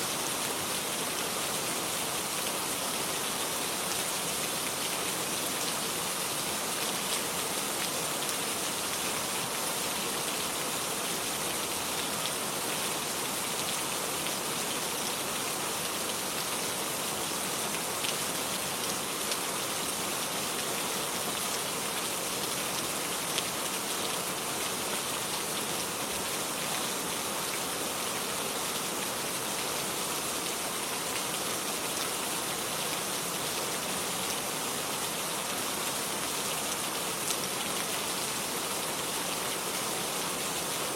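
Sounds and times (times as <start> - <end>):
rain falling on garden: 0.0 - 40.9.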